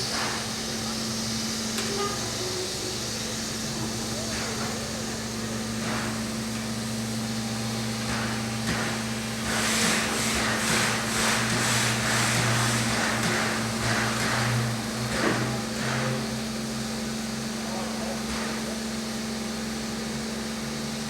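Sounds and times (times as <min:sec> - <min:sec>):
steam locomotive hum and hiss: 0:00.0 - 0:21.0.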